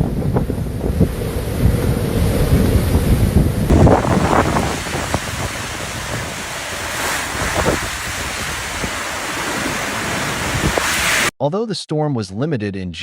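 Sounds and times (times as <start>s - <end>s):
rush of wind-driven water: 0.0s - 11.3s
storm wind buffeting microphone: 0.0s - 11.3s.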